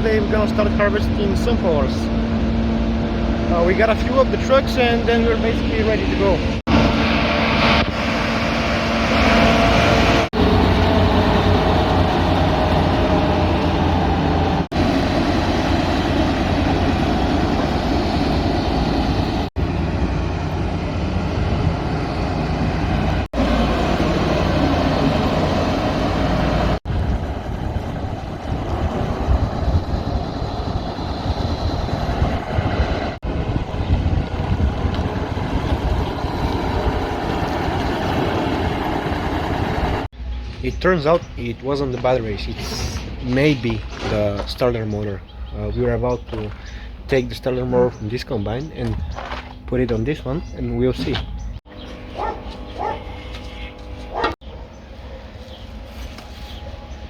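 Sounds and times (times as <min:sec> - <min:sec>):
heavy vehicle engines rumbling: 0:00.0 - 0:57.0.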